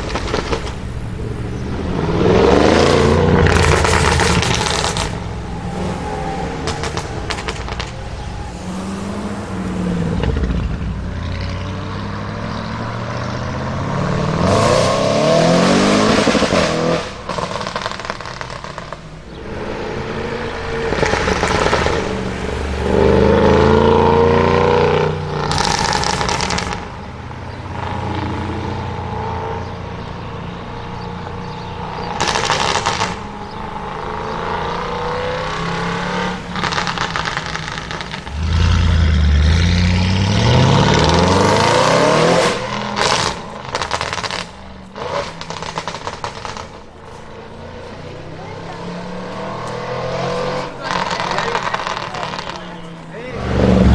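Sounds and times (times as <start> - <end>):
car engine revving: 0.0 - 53.9
exhaust crackling and popping: 0.0 - 53.9.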